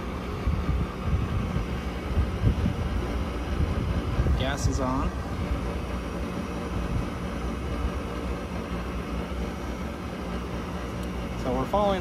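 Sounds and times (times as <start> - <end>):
draft inducer motor humming: 0.0 - 12.0.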